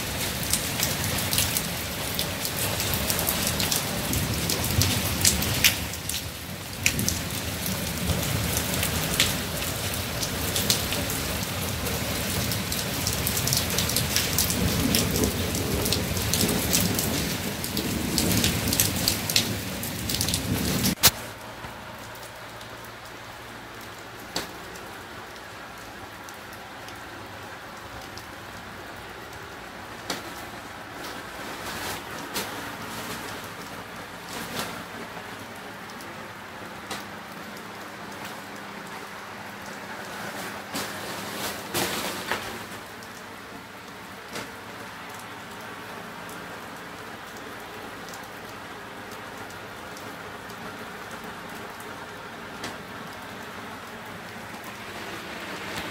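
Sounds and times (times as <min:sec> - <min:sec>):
heavy rain on pavement: 0:00.0 - 0:55.9
muffled rain behind window: 0:00.0 - 0:55.9.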